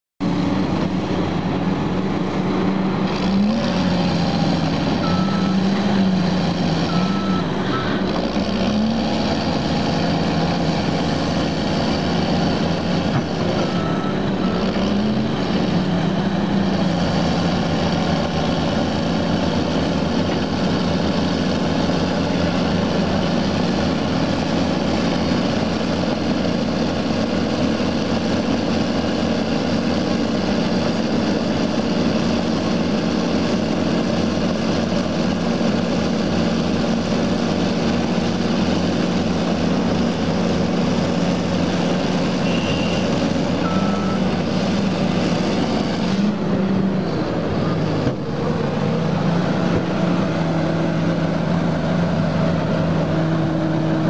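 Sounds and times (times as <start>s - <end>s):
heavy diesel engines droning: 0.2s - 54.0s.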